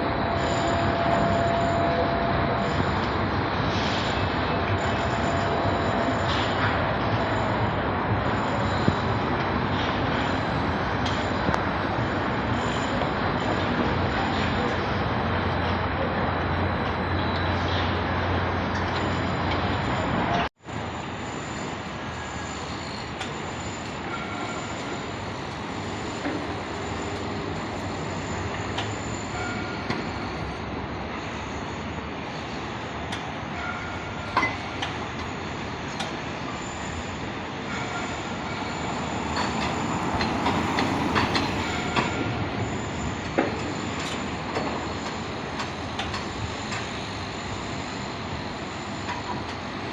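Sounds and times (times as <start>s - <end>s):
machinery noise: 0.0s - 49.8s.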